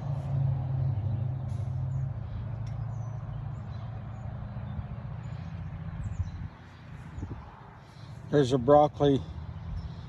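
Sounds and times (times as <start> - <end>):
low motor rumble: 0.0 - 10.0.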